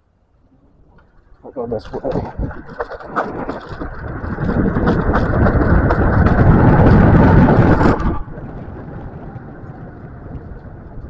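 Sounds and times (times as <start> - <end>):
scooter rattling over pavement: 0.9 - 11.0.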